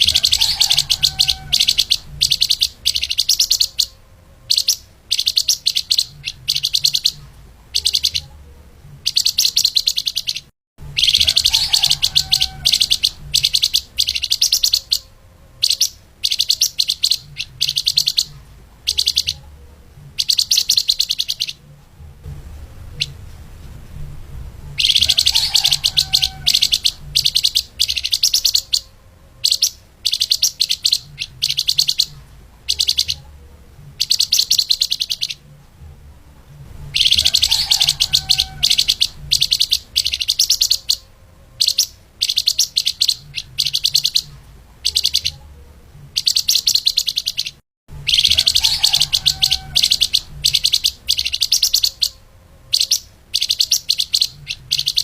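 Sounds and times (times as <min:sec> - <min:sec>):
songbird high-pitched chirping: 0:00.0 - 0:23.3, 0:24.6 - 0:55.0.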